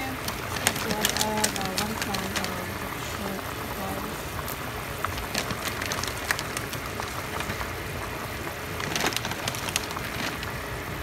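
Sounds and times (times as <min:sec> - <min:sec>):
broth boiling and bubbling: 0:00.0 - 0:11.0.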